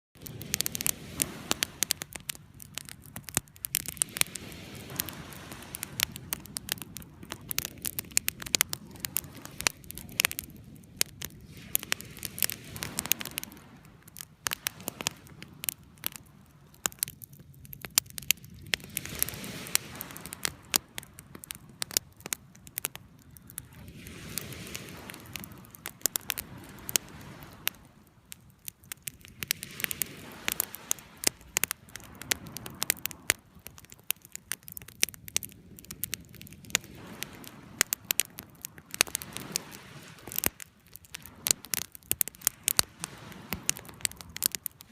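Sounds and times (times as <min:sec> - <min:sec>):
bonfire crackling and popping: 0:00.2 - 0:44.9
sea waves washing: 0:00.2 - 0:44.9.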